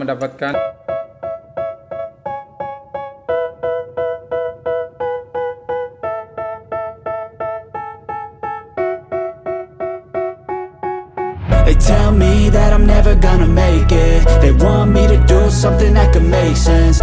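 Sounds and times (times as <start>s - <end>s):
keyboard playing short chords: 0.6s - 17.0s.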